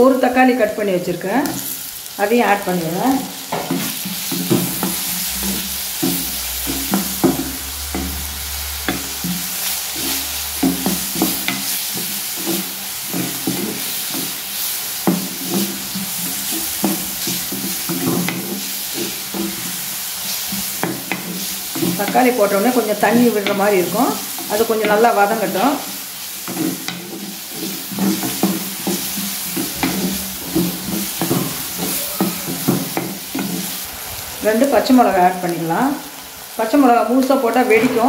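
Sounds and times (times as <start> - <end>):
vegetables sizzling in oil: 0.0 - 38.0
wooden spatula scraping pot: 2.5 - 35.0.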